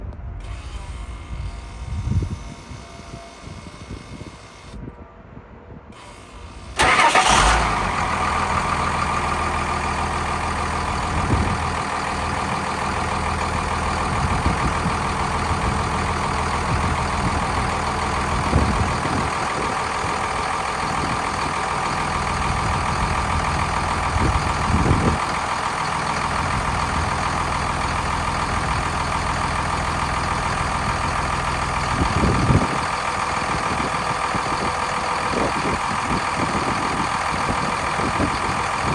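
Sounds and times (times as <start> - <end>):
diesel engine starting and idling: 0.3 - 4.9, 5.9 - 38.9.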